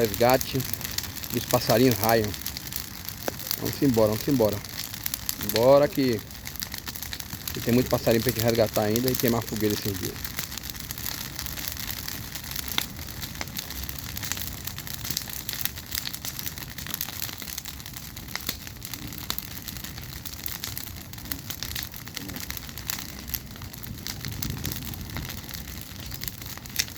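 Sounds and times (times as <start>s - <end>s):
bonfire crackling and popping: 0.0s - 26.9s
fire hissing: 0.0s - 26.9s.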